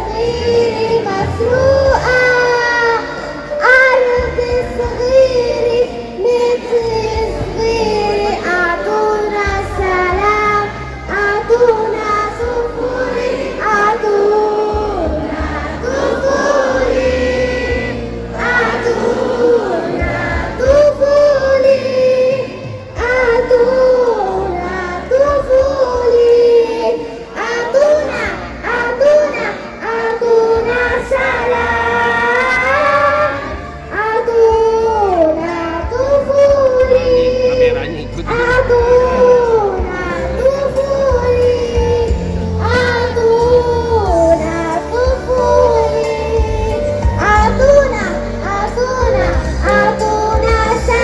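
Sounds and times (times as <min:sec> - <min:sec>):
girl singing: 0:00.0 - 0:17.7, 0:18.4 - 0:51.0
musical accompaniment: 0:00.0 - 0:51.0.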